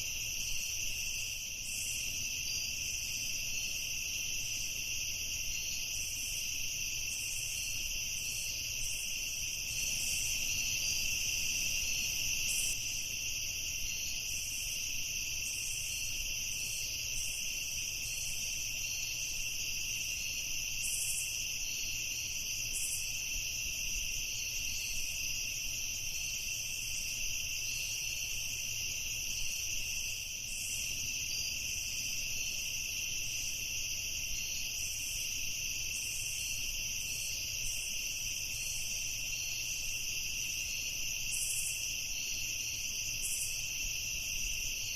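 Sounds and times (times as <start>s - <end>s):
crickets chirring chorus: 0.0s - 44.9s.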